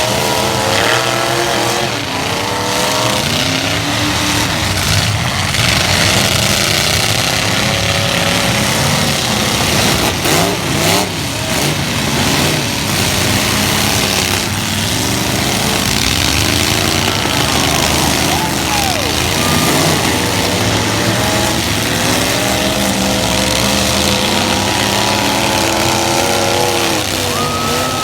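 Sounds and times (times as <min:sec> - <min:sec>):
truck engines revving: 0:00.0 - 0:28.0.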